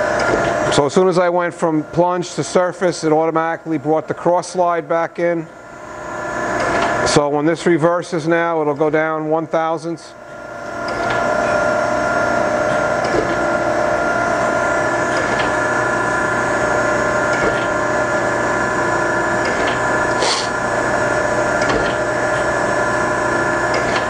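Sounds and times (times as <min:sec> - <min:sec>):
grinder machine whine: 0:00.0 - 0:04.3, 0:05.1 - 0:24.0.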